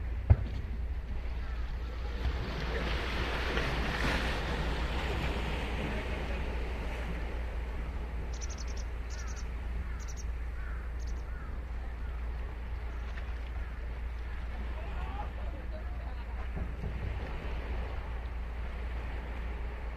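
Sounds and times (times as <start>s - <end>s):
low rumble of surf: 0.0s - 19.9s
waves breaking on a beach: 0.0s - 19.9s
wind: 0.0s - 19.9s.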